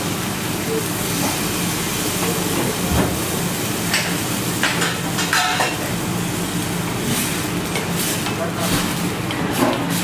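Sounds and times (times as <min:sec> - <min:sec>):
food sizzling in a pan: 0:00.0 - 0:10.0
steady mechanical hum: 0:00.0 - 0:10.0.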